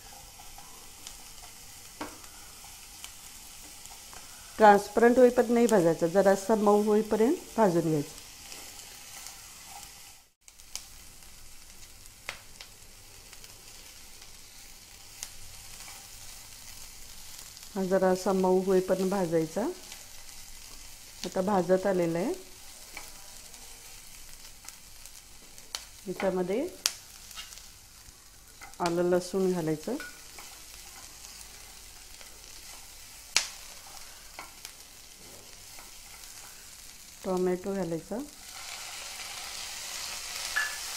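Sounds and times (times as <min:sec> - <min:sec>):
onions sizzling in a frying pan: 0:00.0 - 0:40.9.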